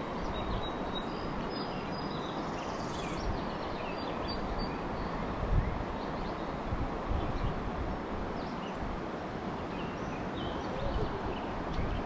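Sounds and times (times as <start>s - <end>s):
shallow river flowing: 0.0s - 12.0s
wind on microphone: 0.0s - 12.0s.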